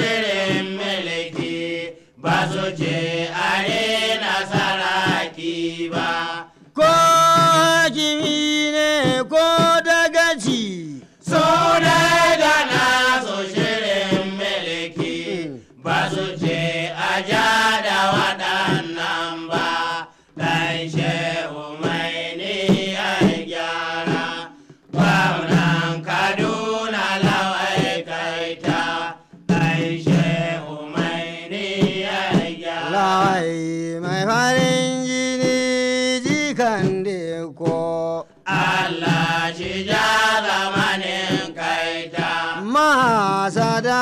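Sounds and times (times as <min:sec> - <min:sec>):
steady drum strikes: 0:00.0 - 0:44.0.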